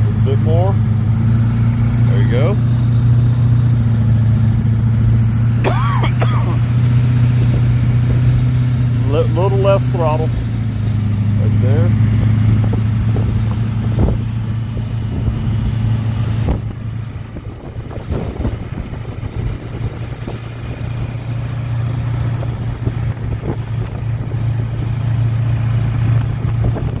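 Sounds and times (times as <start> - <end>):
truck engine under load: 0.0 - 27.0.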